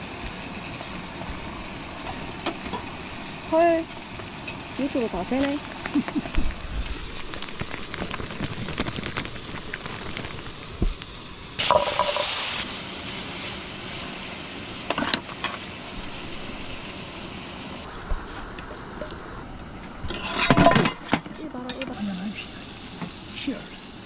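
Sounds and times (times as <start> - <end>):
meat sizzling in a pan: 0.0 - 19.4, 21.6 - 24.0.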